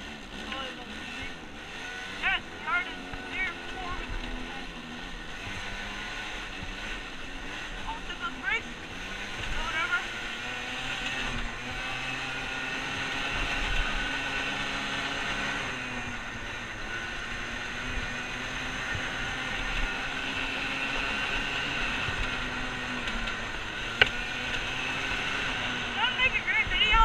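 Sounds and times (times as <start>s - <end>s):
dirt bike engine running: 0.0s - 27.0s.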